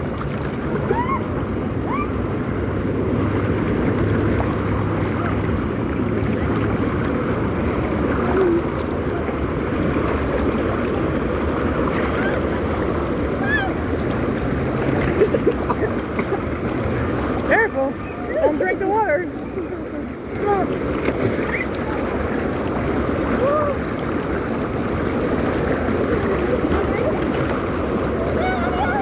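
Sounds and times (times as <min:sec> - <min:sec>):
water rushing and churning: 0:00.0 - 0:29.0.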